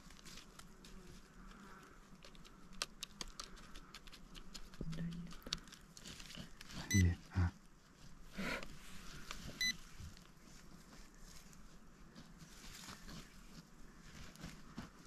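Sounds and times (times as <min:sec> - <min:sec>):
pinpointer scraping through soil: 0:00.0 - 0:07.2, 0:07.8 - 0:15.0.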